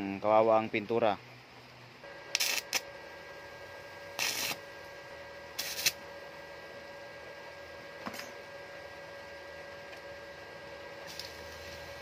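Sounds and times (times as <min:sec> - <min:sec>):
steady electrical hum: 0:00.0 - 0:12.0
arc welder crackling: 0:02.0 - 0:12.0.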